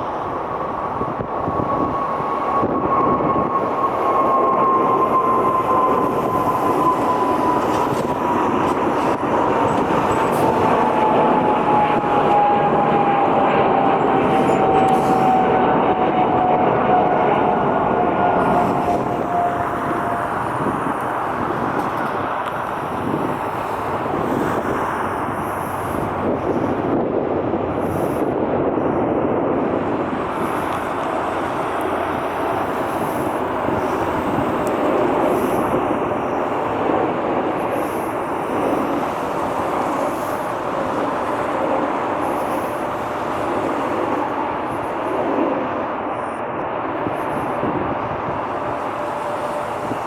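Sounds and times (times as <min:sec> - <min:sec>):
faint engine whine: 0:00.0 - 0:50.0
jet engine rush: 0:00.0 - 0:50.0.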